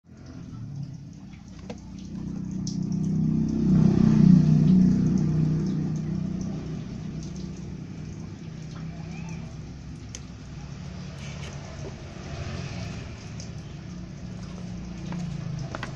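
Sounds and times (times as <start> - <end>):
vehicle engine passing: 0.1 - 15.9.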